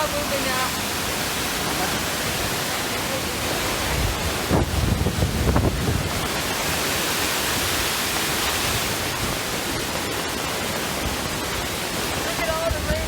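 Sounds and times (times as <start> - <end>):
rain: 0.0 - 13.0
waterfall rushing: 0.0 - 13.0
wind buffeting microphone: 0.0 - 13.0.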